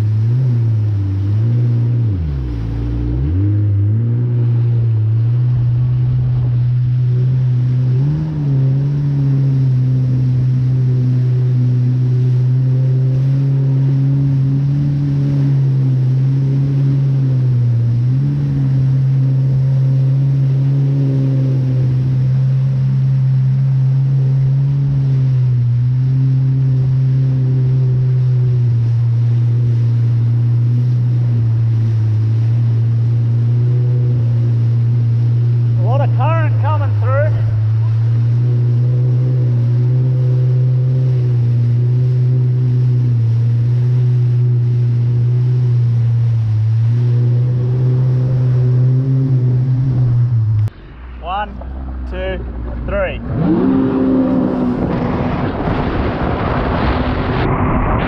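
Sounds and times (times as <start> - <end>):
jet ski engine running: 0.0 - 58.0
water and spray rushing: 0.0 - 58.0.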